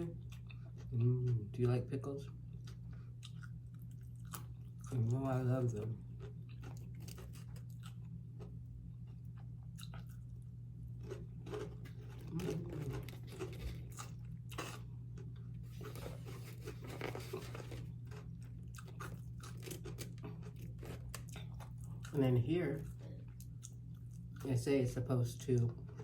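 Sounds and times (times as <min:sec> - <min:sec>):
steady low hum: 0:00.0 - 0:26.0
chewing crisp food: 0:00.1 - 0:24.5, 0:25.4 - 0:26.0.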